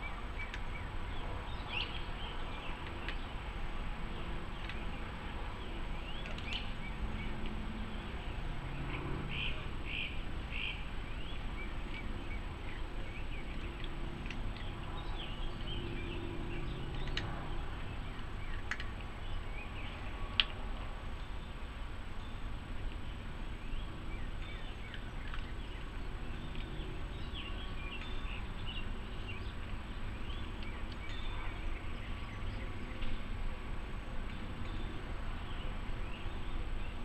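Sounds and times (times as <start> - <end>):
low outdoor rumble: 0.0 - 37.0
songbirds chirping: 0.0 - 37.0.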